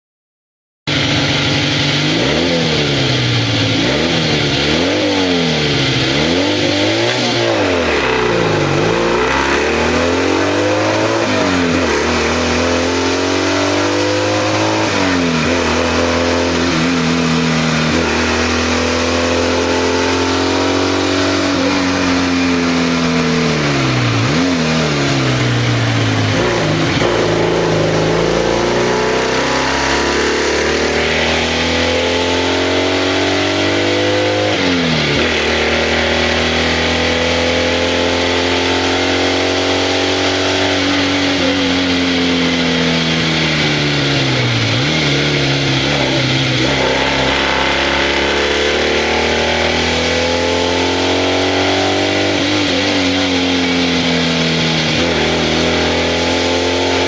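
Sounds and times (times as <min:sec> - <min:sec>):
motorcycle engine pulling uphill: 0:00.9 - 0:57.0.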